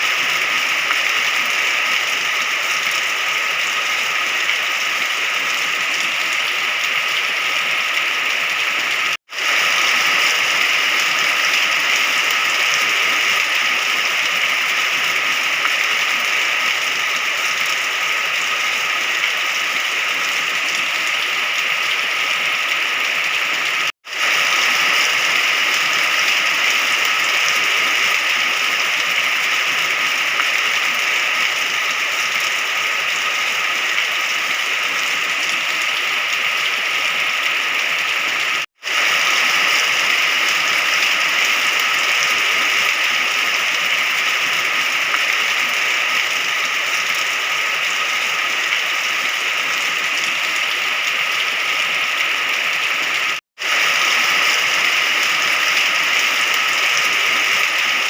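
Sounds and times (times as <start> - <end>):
dense rain hiss: 0.0 - 58.0.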